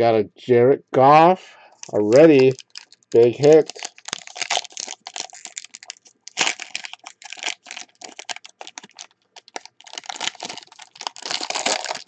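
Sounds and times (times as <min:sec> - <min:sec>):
foil wrapper crinkling: 0:01.8 - 0:12.0.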